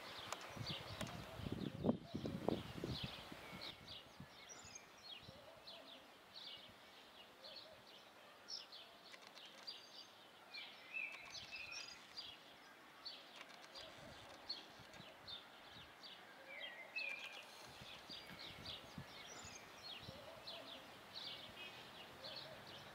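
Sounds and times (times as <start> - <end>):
birds chirping faintly: 0.0 - 22.9
low steady hiss: 0.0 - 22.9.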